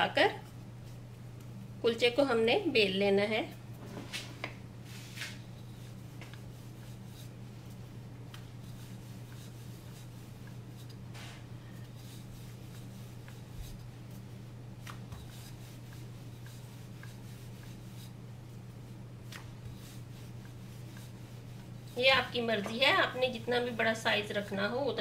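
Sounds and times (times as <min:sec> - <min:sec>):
rolling pin working dough: 0:00.0 - 0:25.0
steady low hum: 0:00.0 - 0:25.0.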